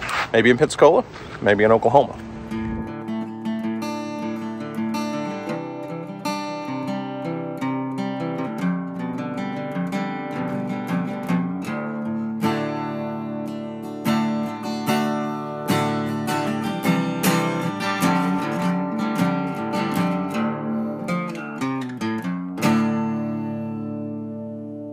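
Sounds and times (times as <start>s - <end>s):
acoustic guitar music: 0.0s - 24.9s.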